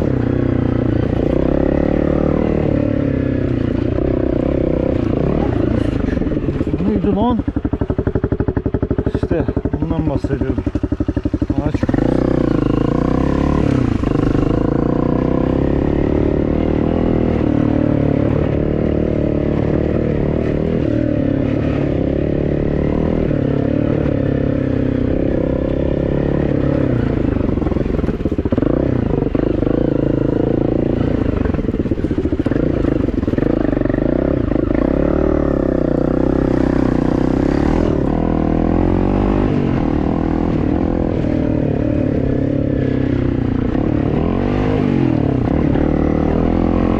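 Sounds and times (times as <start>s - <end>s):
vehicle engine revving: 0.0s - 46.9s.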